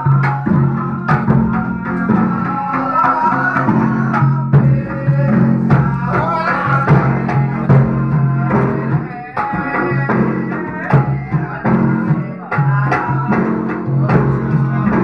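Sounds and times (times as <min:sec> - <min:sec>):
drums striking: 0:00.0 - 0:15.0.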